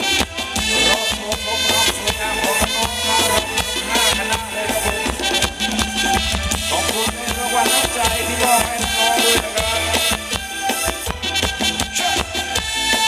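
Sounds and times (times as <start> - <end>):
live band playing dance music: 0.0 - 13.0
saxophone: 0.0 - 13.0
trumpet: 0.0 - 13.0.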